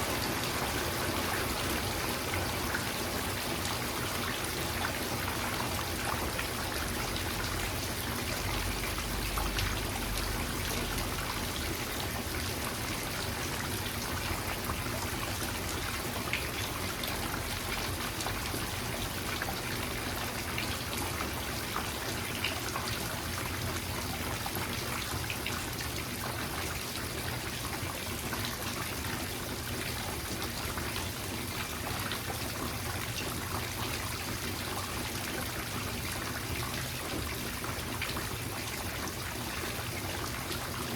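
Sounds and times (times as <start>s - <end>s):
water dripping and trickling: 0.0s - 40.9s.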